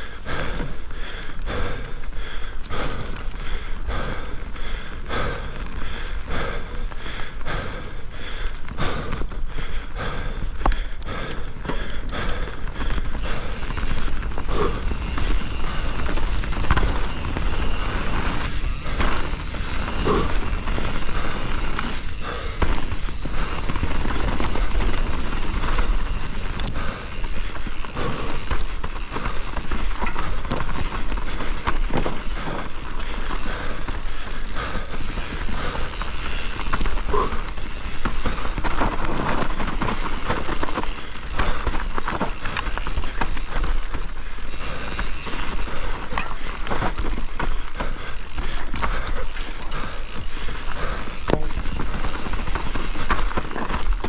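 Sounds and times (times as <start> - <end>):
bike tyre and drivetrain noise: 0.0 - 54.0
bike knocks and rattles: 10.6 - 54.0.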